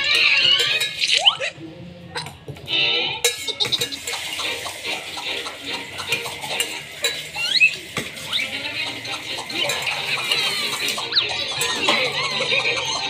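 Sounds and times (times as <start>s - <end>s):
spoon scraping metal bowl: 0.0s - 1.2s, 3.2s - 13.0s
eating sounds: 0.0s - 13.0s.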